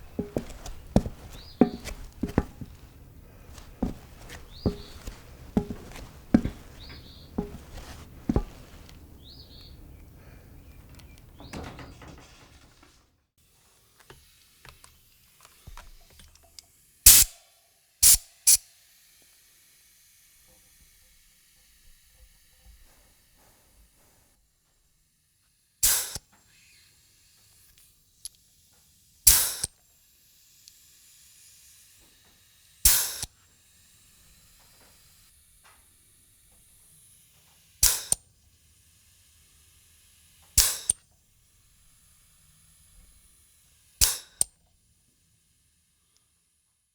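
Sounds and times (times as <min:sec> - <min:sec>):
faint hiss: 0:00.0 - 0:12.0, 0:13.5 - 0:46.5.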